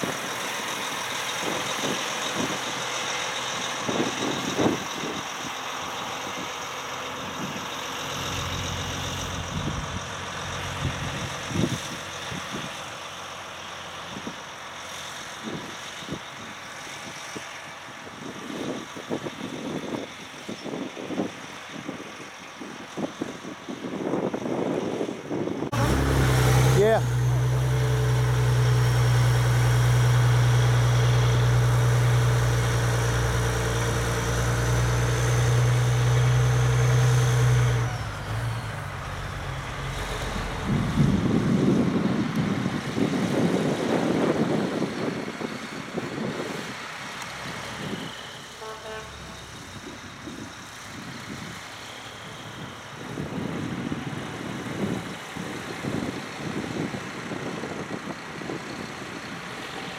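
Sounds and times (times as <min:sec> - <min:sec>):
distant truck engines rumbling: 0:00.0 - 0:59.9
truck engine droning: 0:00.0 - 0:59.9.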